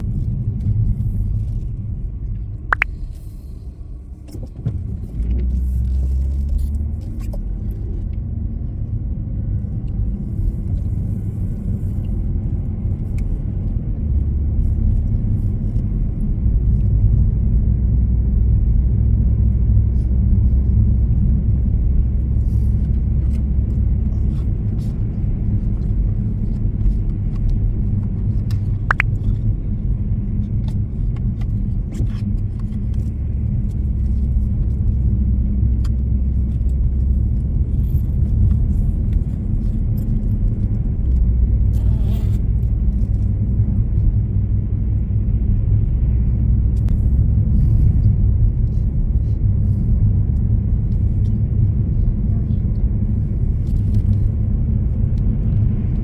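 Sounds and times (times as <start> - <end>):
car road rumble: 0.0 - 56.0.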